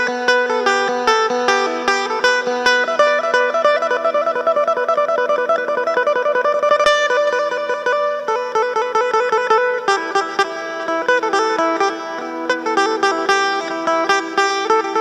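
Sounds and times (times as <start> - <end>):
plucked lute melody: 0.0 - 15.0.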